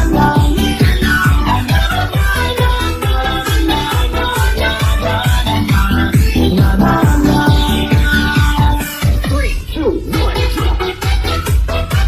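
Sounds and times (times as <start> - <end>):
dj scratching: 0.0 - 12.0
electronic dance music: 0.0 - 12.0
four-to-the-floor kick drum: 0.0 - 12.0.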